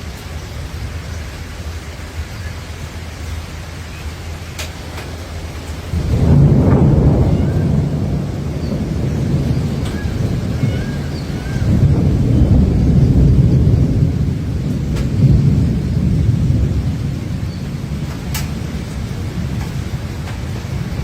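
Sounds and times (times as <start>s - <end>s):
heavy rain: 0.0s - 21.0s
thunder rumbling: 0.0s - 21.0s.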